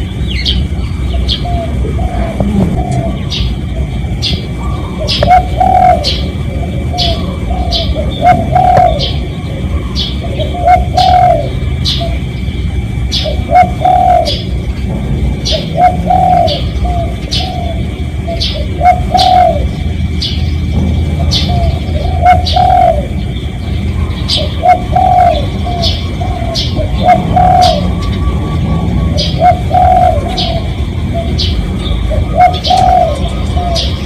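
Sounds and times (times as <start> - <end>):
small bird chirping: 0.0 - 34.0
dove cooing: 0.5 - 34.0.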